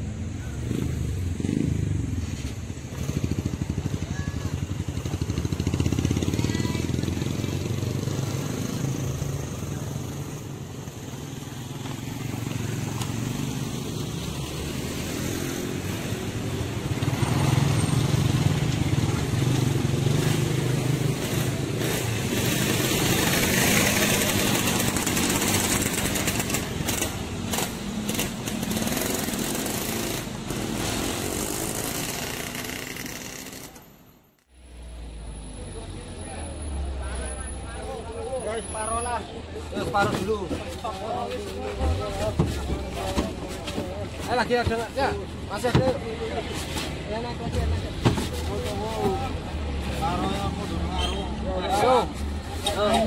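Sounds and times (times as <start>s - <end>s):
motorcycles crossing rails: 0.0s - 53.0s
vehicle engines running: 0.0s - 53.0s.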